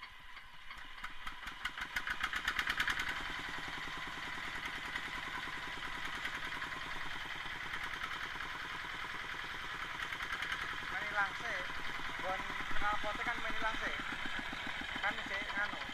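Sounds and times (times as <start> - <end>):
diesel tractor engine knocking: 0.0 - 15.9.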